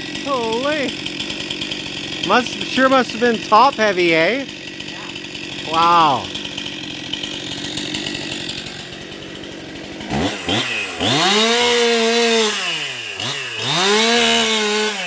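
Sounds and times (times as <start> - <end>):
chainsaw idling and revving: 0.0 - 15.0.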